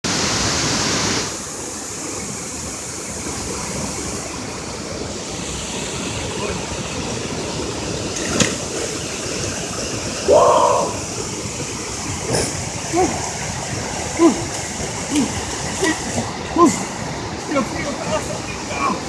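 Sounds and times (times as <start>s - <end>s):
waterfall rushing: 0.1s - 19.0s.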